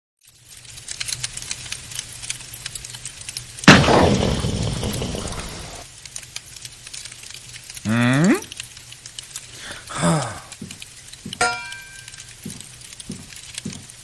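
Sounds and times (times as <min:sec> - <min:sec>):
coal fire crackling: 0:00.2 - 0:14.0.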